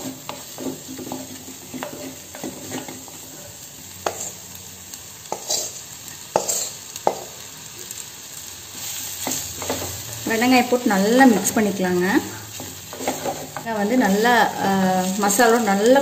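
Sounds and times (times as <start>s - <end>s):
spatula stirring and scraping: 0.0s - 4.5s, 5.2s - 7.2s, 8.7s - 16.0s
masala sizzling in a pot: 0.0s - 16.0s.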